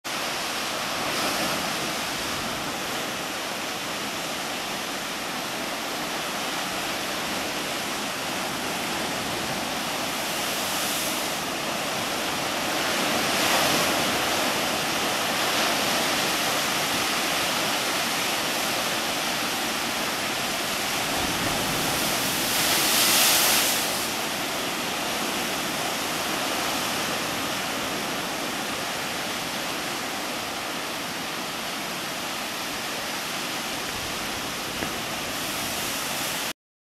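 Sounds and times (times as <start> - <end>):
surf crashing on rocky shore: 0.1 - 36.5.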